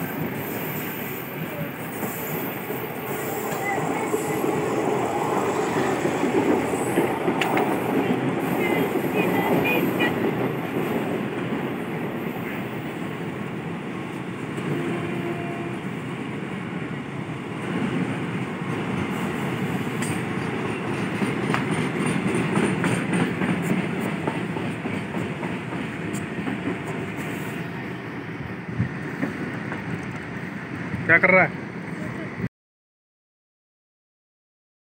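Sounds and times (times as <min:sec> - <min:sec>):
train wheels rumbling on rail: 0:00.0 - 0:32.4.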